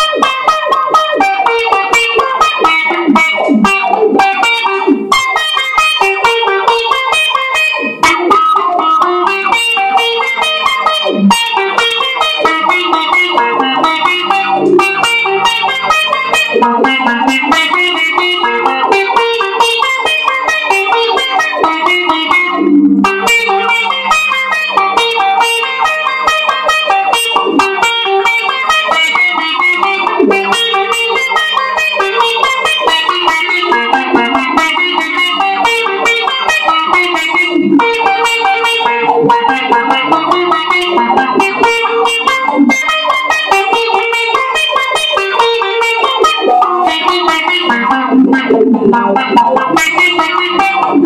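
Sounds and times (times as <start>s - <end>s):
electric guitar picked notes: 0.0s - 51.0s.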